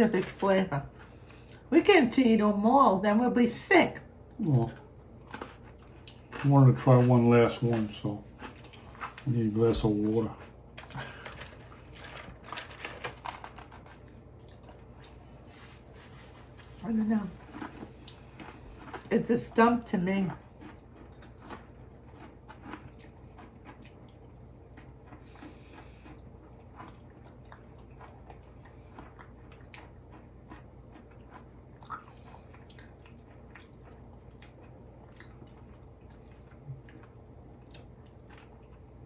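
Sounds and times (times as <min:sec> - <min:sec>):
chewing crunchy cookies: 0:04.4 - 0:39.0.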